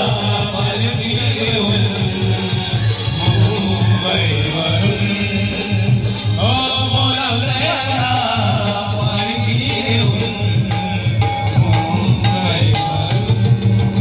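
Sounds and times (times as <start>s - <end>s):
hand drum beat: 0.0s - 14.0s
keyboard: 0.0s - 14.0s.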